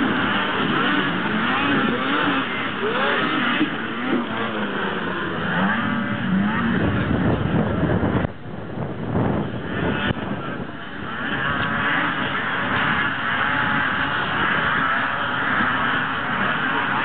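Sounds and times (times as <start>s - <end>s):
snowmobile engines revving: 0.0s - 17.0s.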